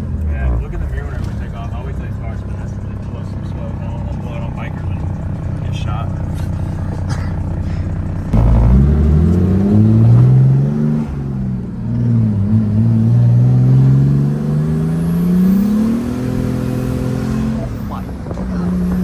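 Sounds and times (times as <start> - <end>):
diesel engine accelerating hard: 0.0 - 19.0.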